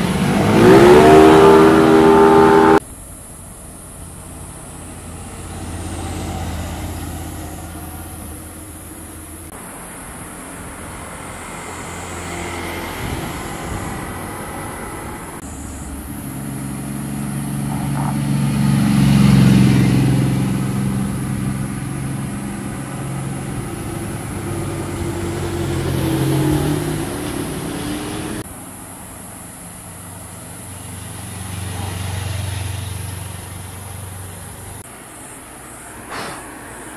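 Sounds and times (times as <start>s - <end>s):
motorcycles passing: 0.0s - 2.8s, 4.4s - 36.9s.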